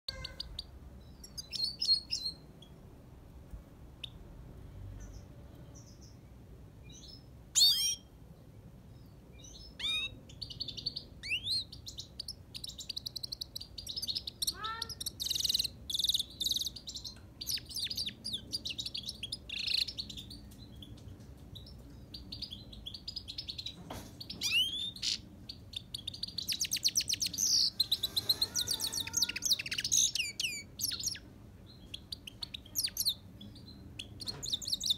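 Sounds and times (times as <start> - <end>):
finch chirps and calls: 0.1 - 2.8, 6.8 - 8.1, 8.9 - 34.9
fast twittering birdsong: 0.1 - 2.9, 5.0 - 34.9.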